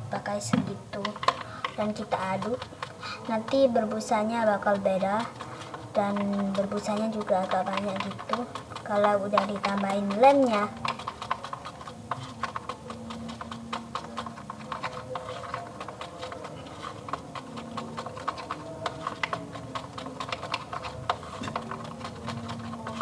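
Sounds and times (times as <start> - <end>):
stirrer scraping a container: 0.0 - 23.0.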